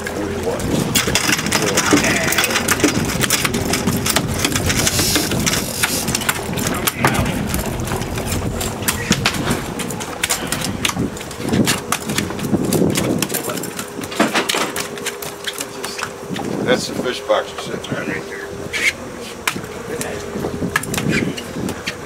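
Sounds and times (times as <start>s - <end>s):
fish slapping on boat deck: 0.0s - 16.7s, 18.7s - 22.0s
boat engine running: 0.0s - 22.0s.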